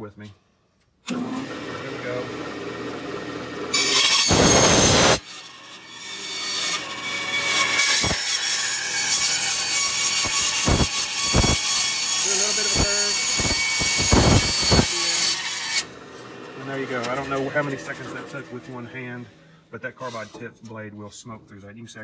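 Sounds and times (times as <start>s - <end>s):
bandsaw cutting through wood: 1.1s - 19.3s.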